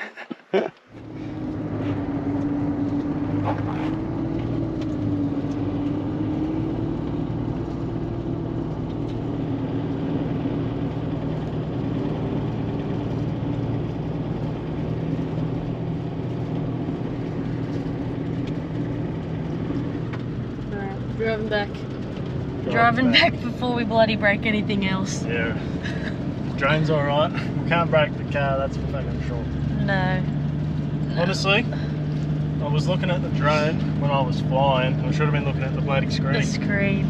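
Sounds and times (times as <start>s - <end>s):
car engine running: 0.0s - 37.0s
road noise: 0.0s - 37.0s.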